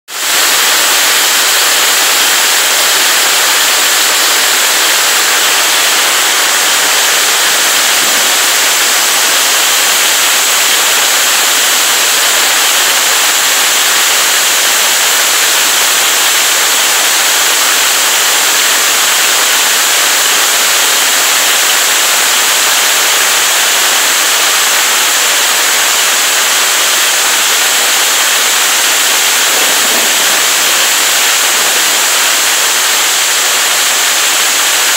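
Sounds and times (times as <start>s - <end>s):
hail and rain pelting down: 0.1s - 34.9s.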